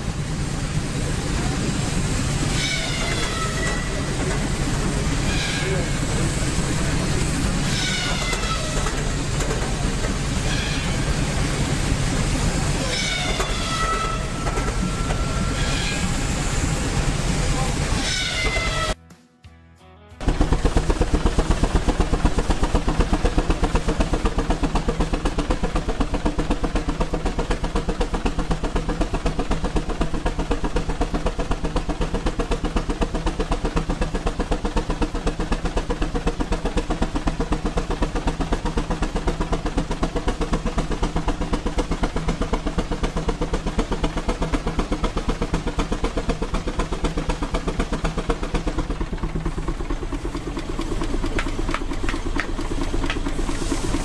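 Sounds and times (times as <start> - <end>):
steam engine running: 0.0 - 19.0, 20.2 - 54.0.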